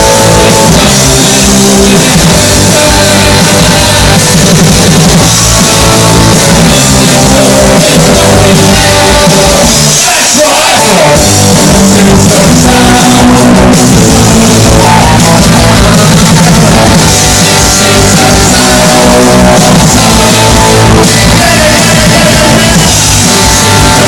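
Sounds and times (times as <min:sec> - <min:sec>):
person singing: 0:00.0 - 0:24.0
punk rock band playing live: 0:00.0 - 0:24.0.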